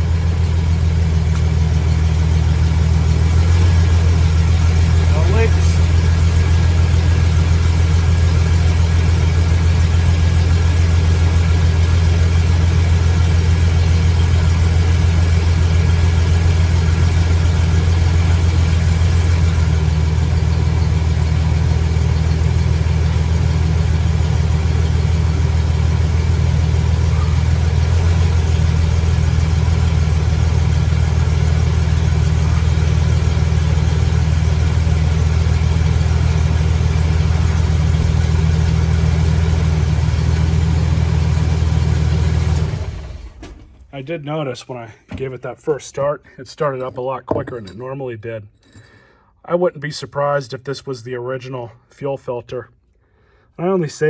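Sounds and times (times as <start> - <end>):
pickup engine idling: 0.0 - 44.0.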